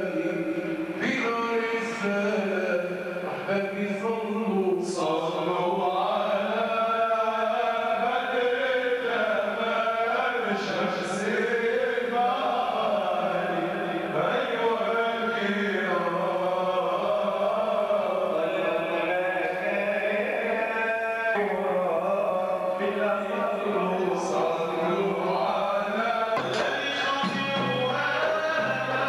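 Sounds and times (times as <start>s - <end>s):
group chanting in unison: 5.0s - 29.0s.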